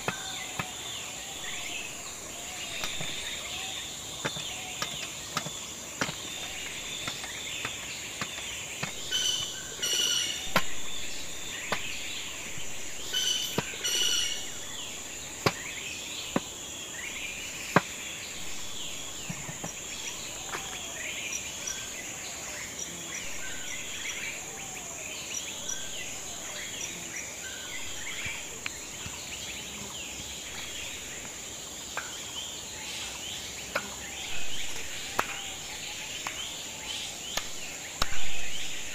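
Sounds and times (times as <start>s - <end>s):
birds chirping: 0.0s - 38.9s
high insect drone: 0.0s - 38.9s.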